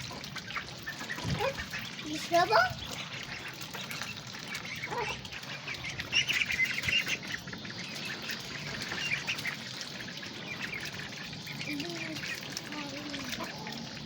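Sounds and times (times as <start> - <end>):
ducklings peeping: 0.0 - 14.0.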